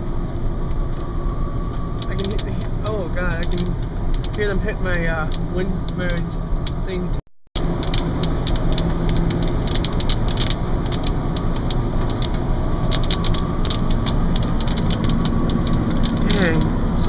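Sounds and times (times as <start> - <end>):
car engine and road rumble: 0.0 - 17.0
heavy rain tapping on car: 1.7 - 6.9, 7.6 - 17.0.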